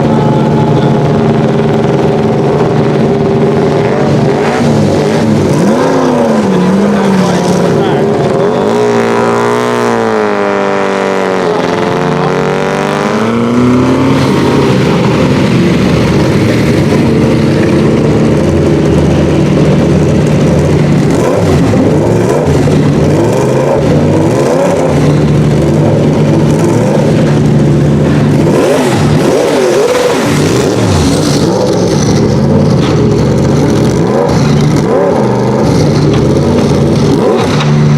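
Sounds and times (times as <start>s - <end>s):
racing car engine running: 0.0s - 37.9s.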